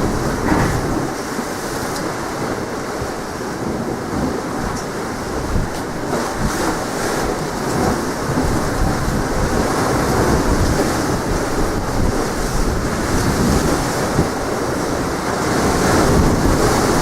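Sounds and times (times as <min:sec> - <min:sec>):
sea waves washing ashore: 0:00.0 - 0:17.0
wind across microphone: 0:00.0 - 0:17.0.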